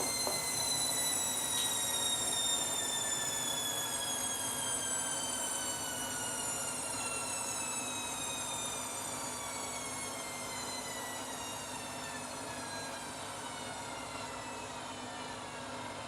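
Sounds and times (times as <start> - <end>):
washing machine motor whine: 0.0 - 16.0.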